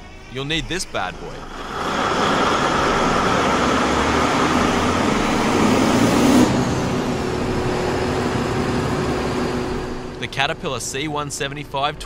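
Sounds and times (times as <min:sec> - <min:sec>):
diesel generator engine running: 0:00.0 - 0:12.0.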